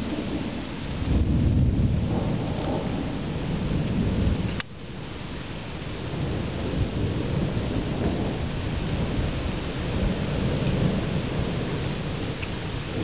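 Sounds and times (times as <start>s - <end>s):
thunder low rumble: 0.0s - 4.6s, 6.0s - 13.0s.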